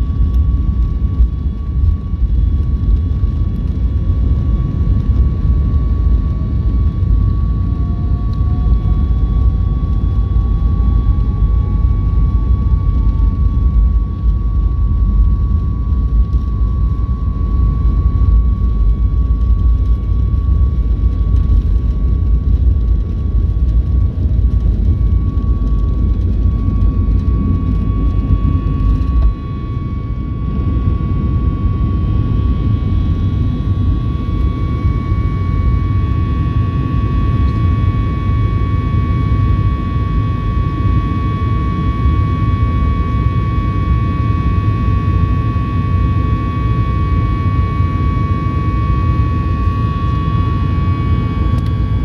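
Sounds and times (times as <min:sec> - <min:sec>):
high engine whine: 0:00.0 - 0:52.0
jet engines rumbling: 0:00.0 - 0:52.0.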